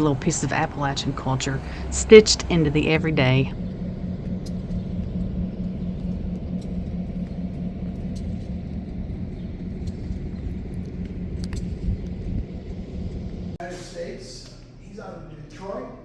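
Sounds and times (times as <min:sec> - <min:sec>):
vehicle engine rumbling: 0:00.0 - 0:15.6.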